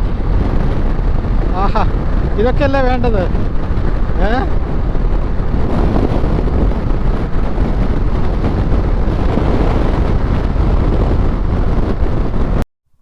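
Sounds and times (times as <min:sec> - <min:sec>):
motorcycle engine drone: 0:00.0 - 0:12.6
wind buffeting microphone: 0:00.0 - 0:12.6.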